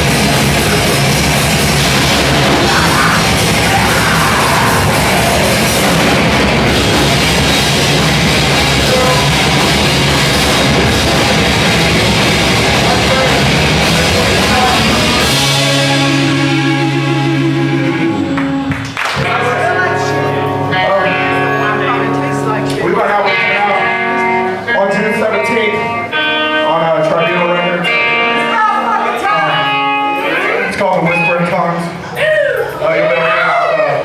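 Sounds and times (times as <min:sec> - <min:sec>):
heavy rock music: 0:00.0 - 0:30.3
ringing guitar chord: 0:00.0 - 0:30.6.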